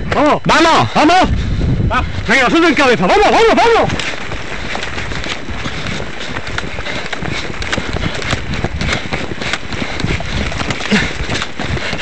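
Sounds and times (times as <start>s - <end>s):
running footsteps on stony dirt: 0.8s - 12.0s.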